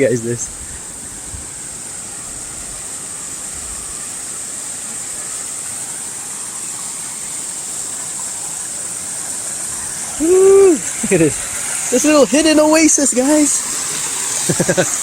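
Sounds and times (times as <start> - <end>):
water splashing down cascade: 0.0 - 15.0.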